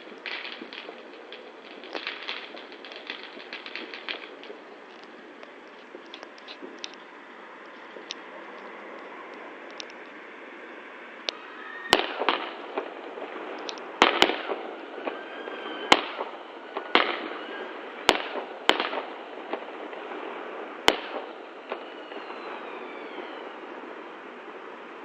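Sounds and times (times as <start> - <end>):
faint fireworks whistles: 0.0 - 25.0
fireworks bangs: 0.0 - 25.0
fireworks crackling: 0.0 - 25.0.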